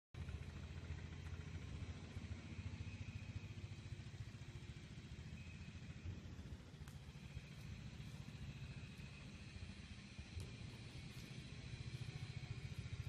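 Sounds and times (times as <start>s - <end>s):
diesel truck engine idling: 0.2s - 13.0s.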